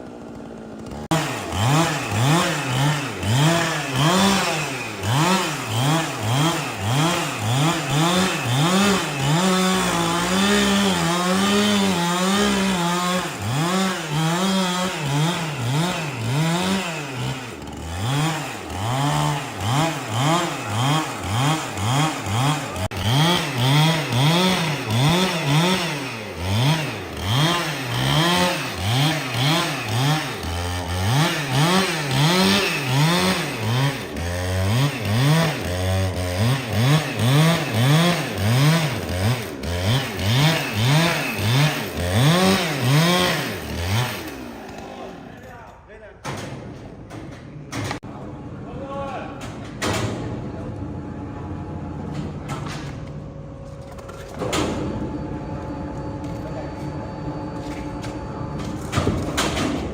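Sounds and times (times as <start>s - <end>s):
chainsaw cutting wood: 0.0s - 45.5s, 56.0s - 59.9s.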